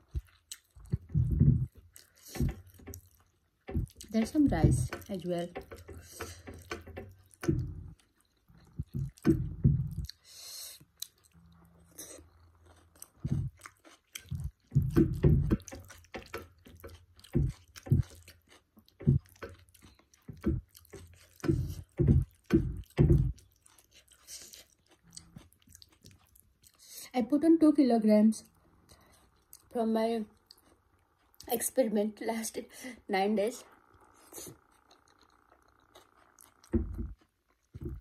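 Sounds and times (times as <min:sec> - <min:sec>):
wet chewing mouth sounds: 0:00.0 - 0:27.1, 0:28.5 - 0:31.8, 0:33.6 - 0:38.0.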